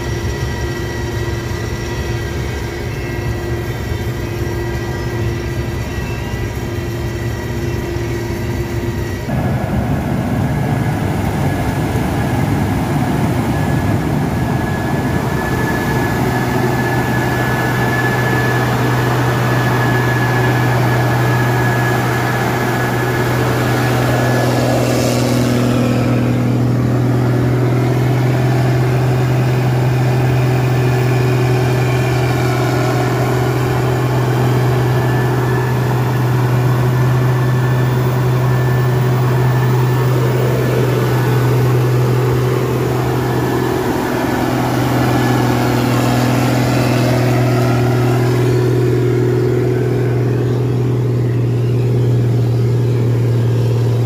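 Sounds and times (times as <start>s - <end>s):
cotton picker engine hum: 0.0s - 54.0s.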